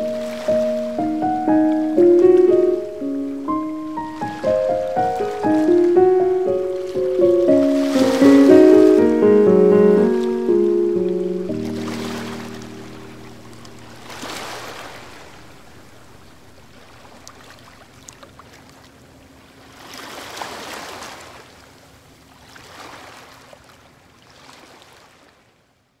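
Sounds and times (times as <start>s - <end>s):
small waves washing on shore: 0.0s - 25.7s.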